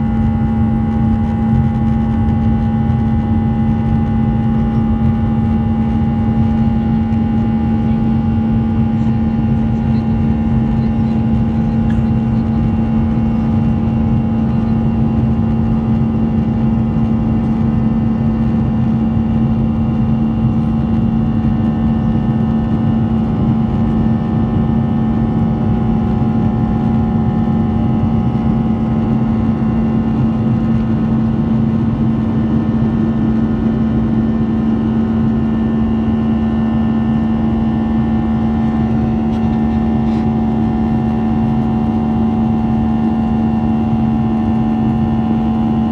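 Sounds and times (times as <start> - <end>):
constant low hum: 0.0 - 45.9.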